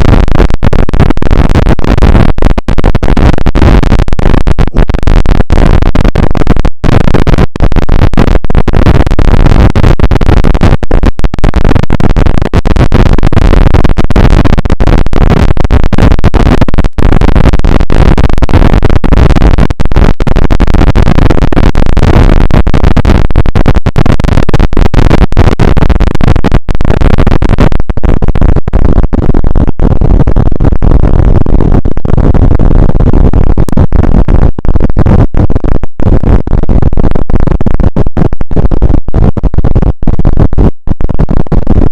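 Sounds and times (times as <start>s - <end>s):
harsh distorted noise: 0.0s - 39.9s, 41.0s - 41.9s.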